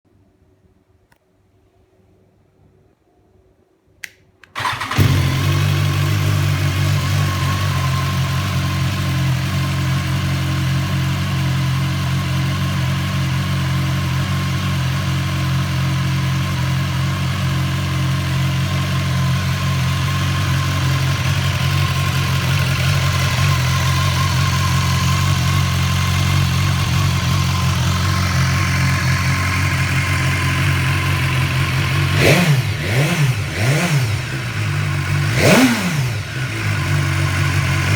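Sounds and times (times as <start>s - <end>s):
motorcycle engine starting and idling: 4.4s - 37.9s.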